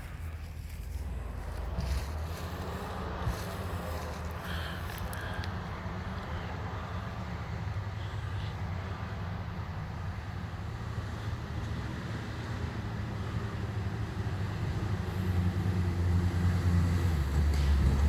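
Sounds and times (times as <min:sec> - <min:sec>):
off-road vehicle engine droning: 0:00.0 - 0:18.0.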